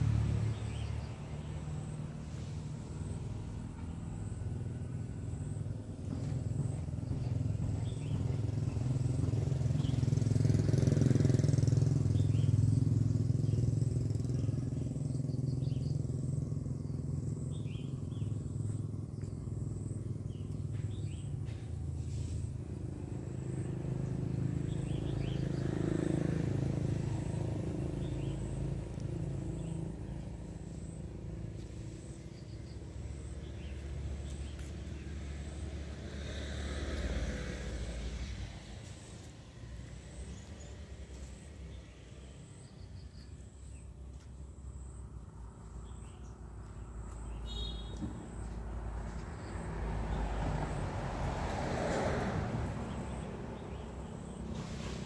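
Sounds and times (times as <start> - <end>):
passing road vehicles rumbling: 0.0 - 55.0.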